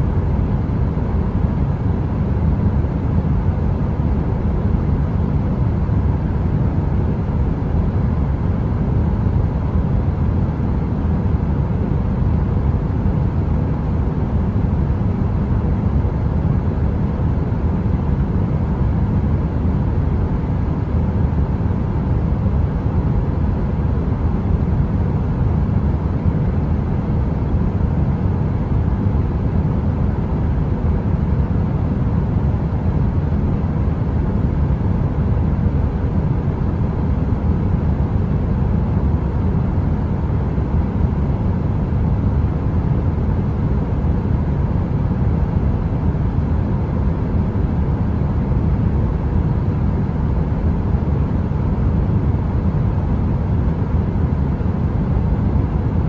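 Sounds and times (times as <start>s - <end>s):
faint steady hum: 0.0s - 56.0s
heater fan running: 0.0s - 56.0s.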